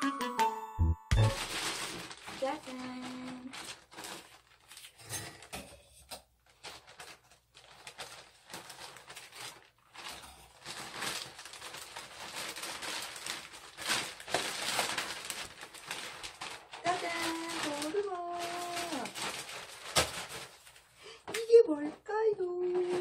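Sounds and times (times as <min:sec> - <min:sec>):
plastic bag rustling: 0:01.2 - 0:05.5, 0:06.4 - 0:23.0.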